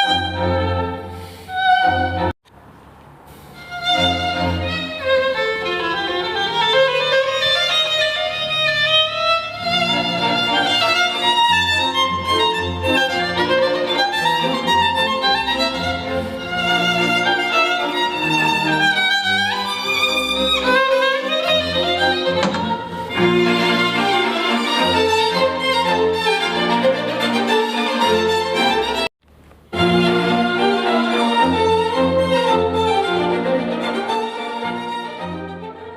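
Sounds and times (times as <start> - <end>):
violin-like melody: 0.0 - 2.4, 3.5 - 29.1, 29.7 - 35.9.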